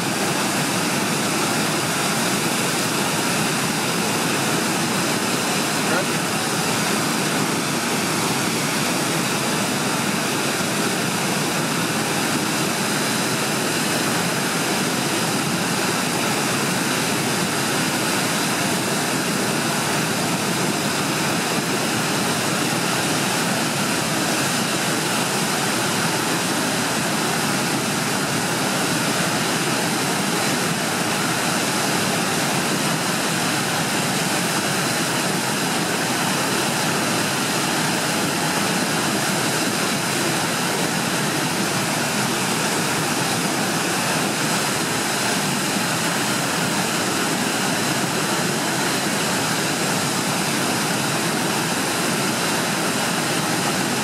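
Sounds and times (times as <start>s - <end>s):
whitewater rushing: 0.0s - 54.0s.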